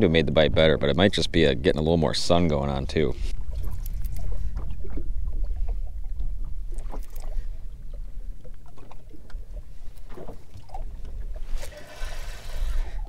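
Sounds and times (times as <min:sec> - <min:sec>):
low rumble of wind and water: 0:00.0 - 0:13.0
waves lapping against boat hull: 0:00.0 - 0:13.0.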